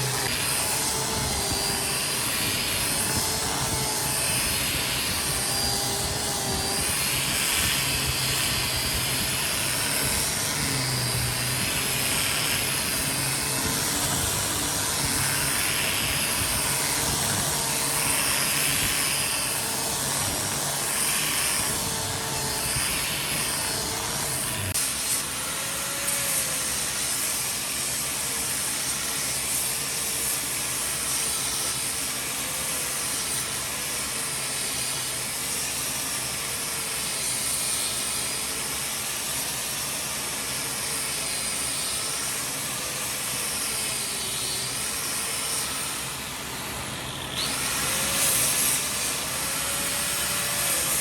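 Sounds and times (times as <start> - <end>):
power tool motor whining: 0.0 - 51.0.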